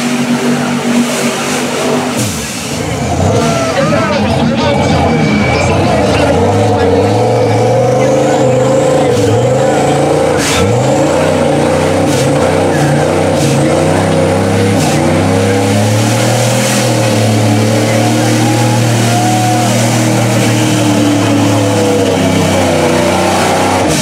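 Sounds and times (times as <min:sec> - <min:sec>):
tires churning through mud: 0:00.0 - 0:24.0
truck engine at high revs: 0:00.0 - 0:24.0.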